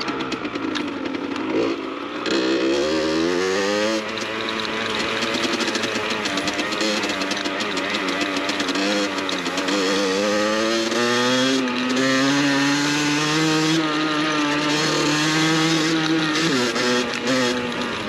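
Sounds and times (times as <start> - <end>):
two-stroke engine revving high: 0.0 - 18.0.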